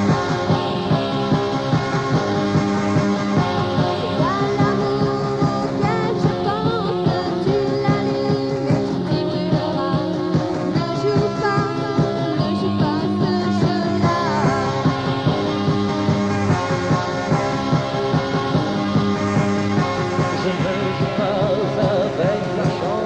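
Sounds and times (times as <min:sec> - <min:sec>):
bass guitar: 0:00.0 - 0:23.0
drums at a steady beat: 0:00.0 - 0:23.0
electric guitar: 0:00.0 - 0:23.0.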